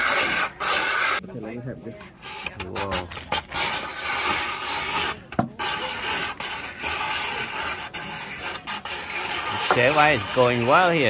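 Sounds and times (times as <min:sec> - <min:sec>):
ice shaving machine scraping: 0:00.0 - 0:01.2, 0:02.2 - 0:11.0.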